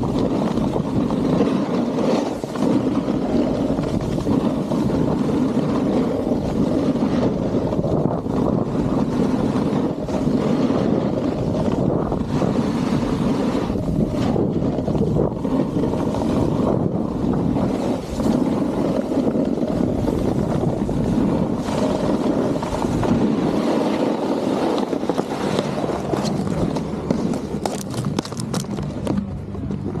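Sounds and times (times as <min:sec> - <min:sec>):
snowboard scraping over snow: 0:00.0 - 0:30.0
wind buffeting microphone: 0:00.0 - 0:30.0.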